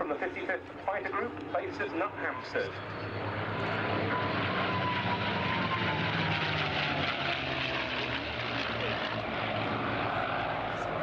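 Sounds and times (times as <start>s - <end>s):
propeller planes droning past: 0.0s - 11.0s.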